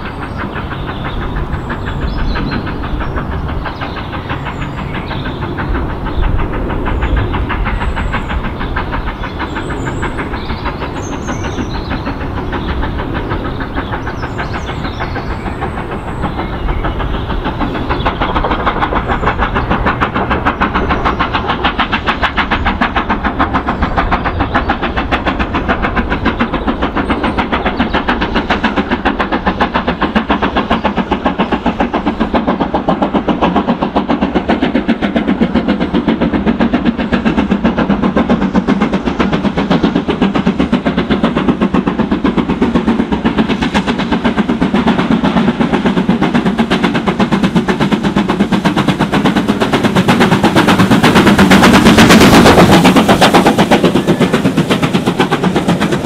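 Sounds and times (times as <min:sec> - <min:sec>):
steam locomotive exhaust beating: 0:00.0 - 0:56.0.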